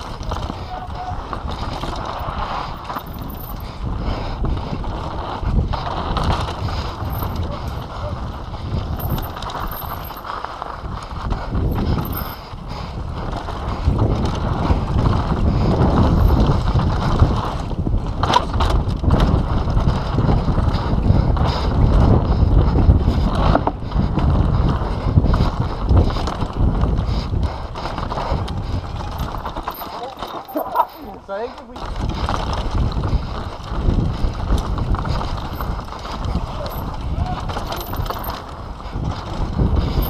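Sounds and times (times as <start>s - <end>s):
tyres rumbling over dirt: 0.0s - 12.4s, 13.0s - 40.0s
bike rattling clicks and knocks: 0.0s - 40.0s
wind buffeting microphone: 0.0s - 40.0s.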